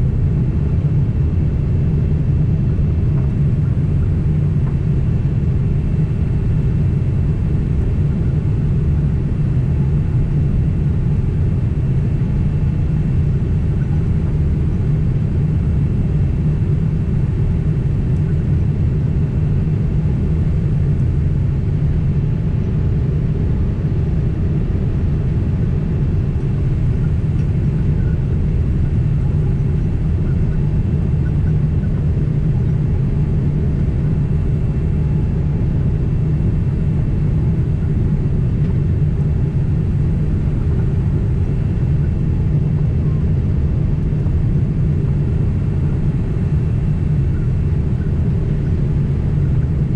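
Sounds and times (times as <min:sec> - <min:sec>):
airliner engine rumble: 0:00.0 - 0:49.9.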